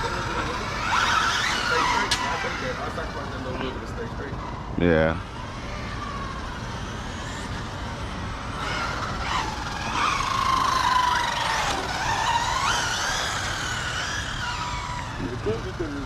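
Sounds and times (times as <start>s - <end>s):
rc car electric motors whining: 0.0s - 16.0s.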